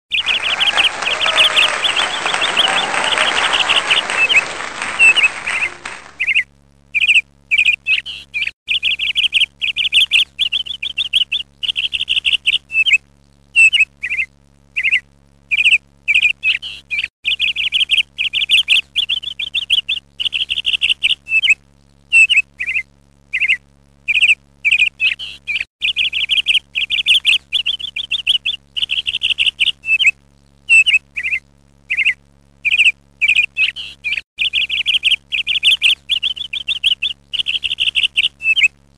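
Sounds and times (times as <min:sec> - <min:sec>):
ducklings peeping: 0:00.1 - 0:38.8
faint low hum: 0:00.1 - 0:38.9.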